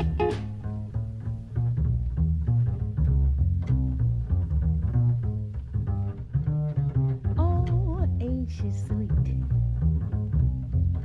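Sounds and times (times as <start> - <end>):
plucked double bass: 0.0 - 11.0
small jazz group playing: 0.0 - 11.0.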